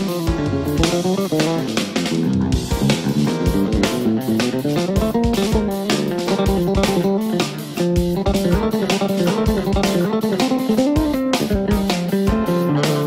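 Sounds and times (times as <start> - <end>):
guitar and bass music with beat: 0.0 - 13.0.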